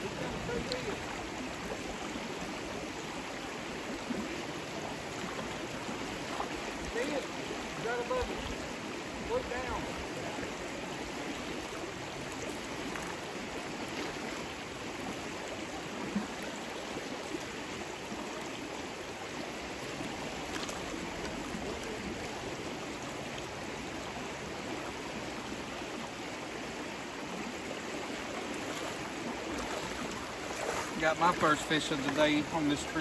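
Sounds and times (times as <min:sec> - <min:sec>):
river rushing over stones: 0:00.0 - 0:33.0.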